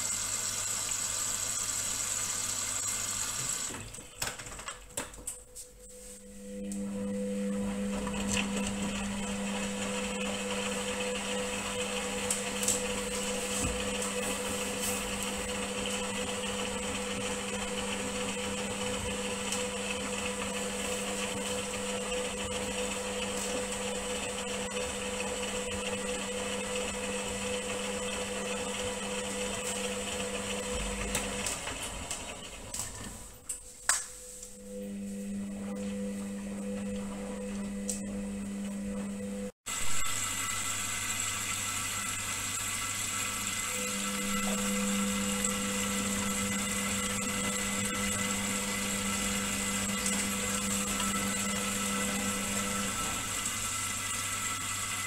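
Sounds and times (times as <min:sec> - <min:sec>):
washing machine drum motor: 0:00.0 - 0:04.8, 0:06.3 - 0:33.7, 0:34.6 - 0:55.0.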